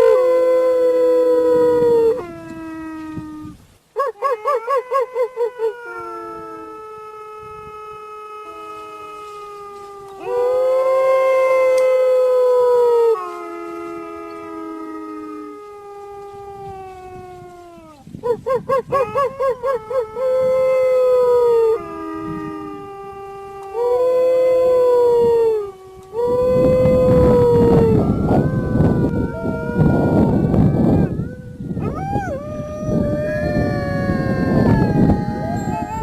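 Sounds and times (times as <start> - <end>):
wolves howling: 0.0 - 36.0.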